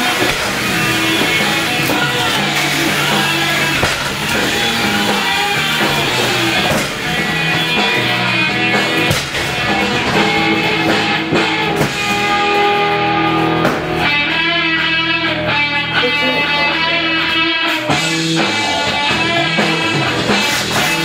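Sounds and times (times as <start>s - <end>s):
guitar rock music: 0.0s - 21.0s.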